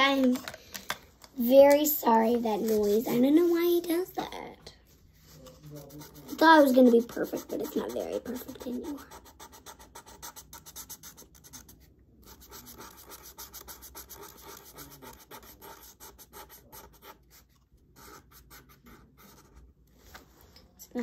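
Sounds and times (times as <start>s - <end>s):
marker scratching on paper: 1.6s - 4.2s, 5.2s - 19.6s.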